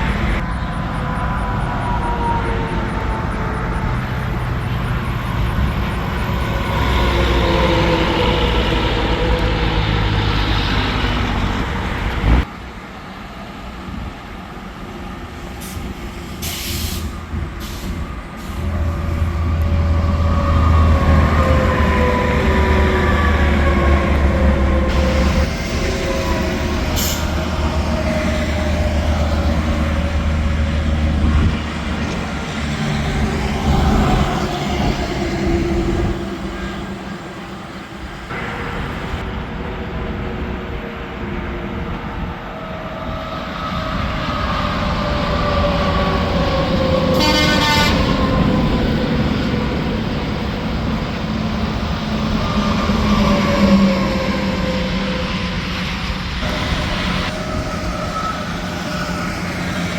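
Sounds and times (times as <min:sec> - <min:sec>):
trucks passing on highway: 0:00.0 - 0:59.9.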